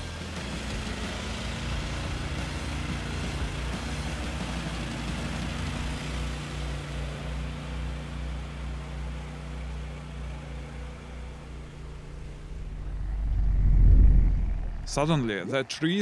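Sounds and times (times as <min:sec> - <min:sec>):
atv engine running: 0:00.0 - 0:15.3.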